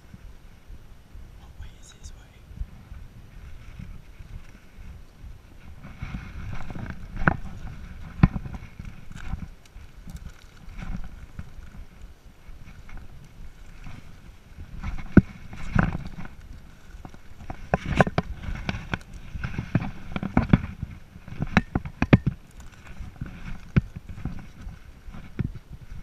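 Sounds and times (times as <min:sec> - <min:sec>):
footsteps on rocky ground: 0:02.6 - 0:26.0.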